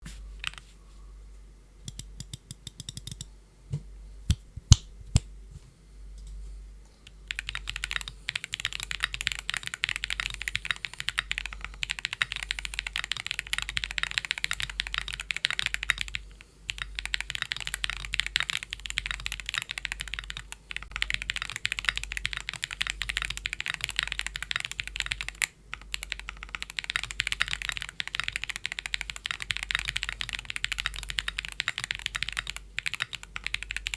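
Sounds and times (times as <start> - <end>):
mechanical keyboard typing: 1.9 - 3.3, 7.3 - 33.9.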